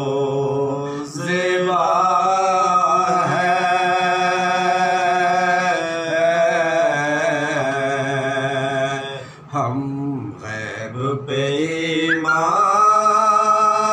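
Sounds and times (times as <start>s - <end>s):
men chanting a lament: 0.0s - 13.9s.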